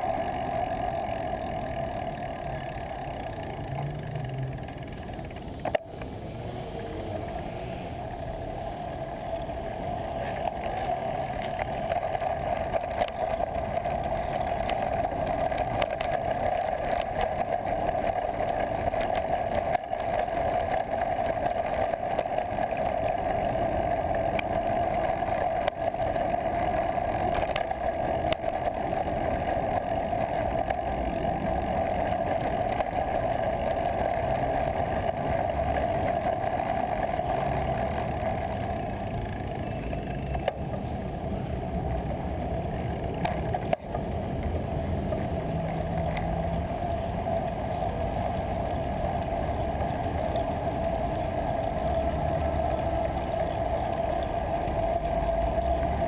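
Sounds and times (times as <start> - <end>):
wind and road noise from bicycle: 0.0 - 56.0.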